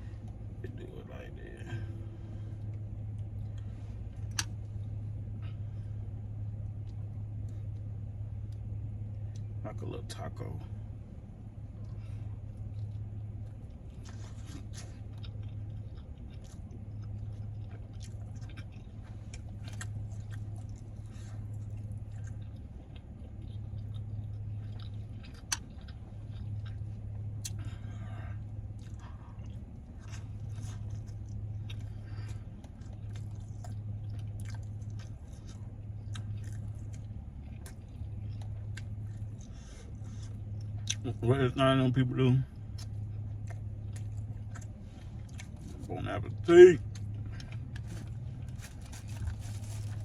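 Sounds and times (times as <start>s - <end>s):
man chewing food: 0.0s - 9.7s, 10.4s - 50.0s
low hum: 0.0s - 50.0s.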